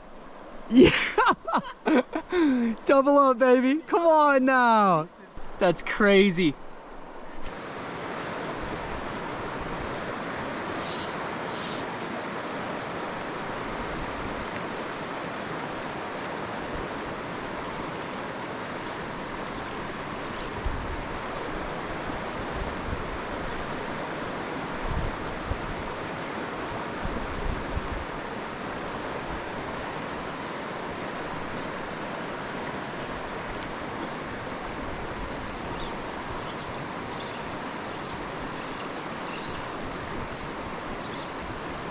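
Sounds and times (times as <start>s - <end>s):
creek water rushing: 0.0s - 41.9s.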